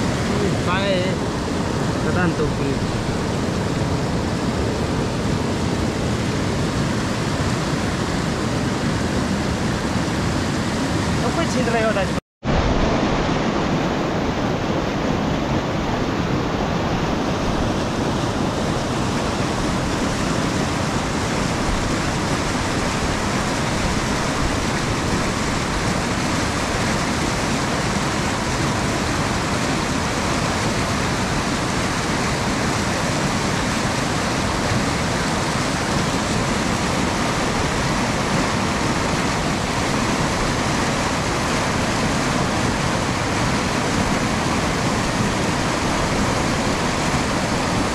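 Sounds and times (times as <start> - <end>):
river rushing over boulders: 0.0 - 47.9.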